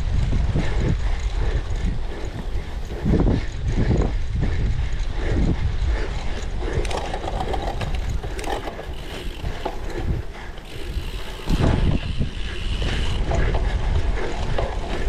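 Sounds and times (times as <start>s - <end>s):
bike rattling and clicking: 0.0s - 15.0s
bike tyres rumbling: 0.0s - 15.0s
wind buffeting microphone: 0.0s - 15.0s.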